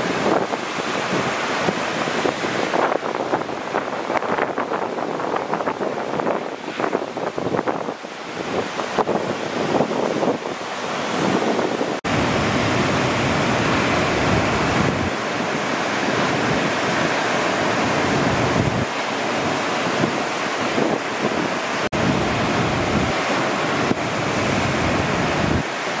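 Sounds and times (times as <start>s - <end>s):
ocean surf breaking: 0.0s - 26.0s
wind on microphone: 0.0s - 26.0s.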